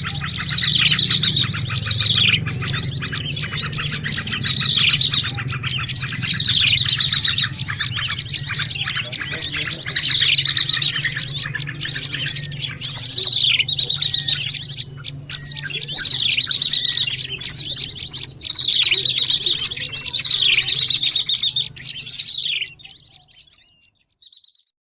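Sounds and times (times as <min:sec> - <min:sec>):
steady low hum: 0:00.0 - 0:22.2
songbirds chirping chorus: 0:00.0 - 0:24.7.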